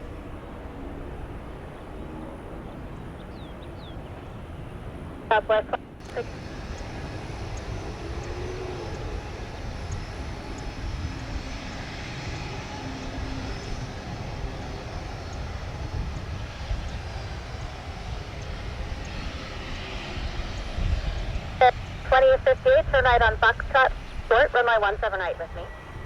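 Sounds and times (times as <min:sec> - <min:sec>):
jet engine noise: 0:00.0 - 0:26.0
wind buffeting microphone: 0:00.0 - 0:26.0.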